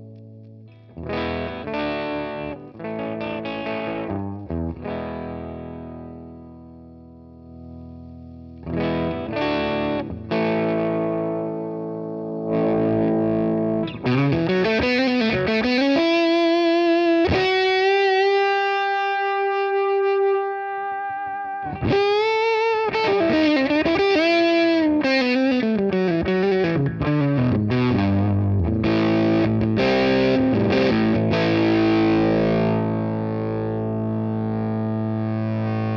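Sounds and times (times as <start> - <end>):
fuzzed electric guitar: 0.0 - 35.9.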